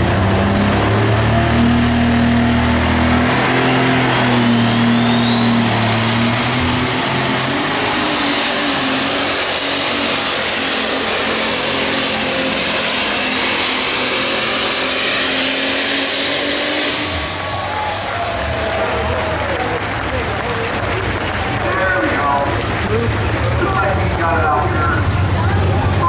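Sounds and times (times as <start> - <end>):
high turbocharger whine: 0.0 - 26.0
tractor engine at full power: 0.0 - 26.0.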